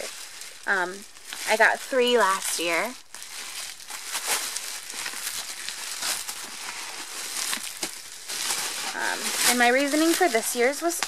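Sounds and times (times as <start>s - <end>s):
bubble wrap rustling and crinkling: 0.0s - 11.0s.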